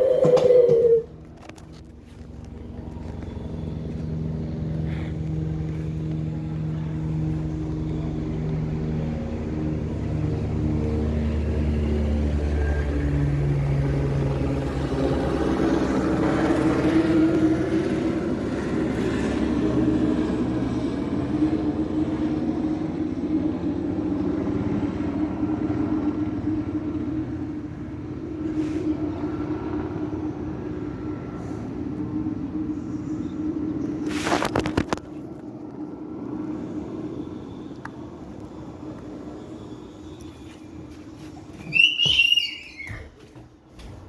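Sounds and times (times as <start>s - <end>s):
helicopter rotor and engine: 0.2s - 42.8s.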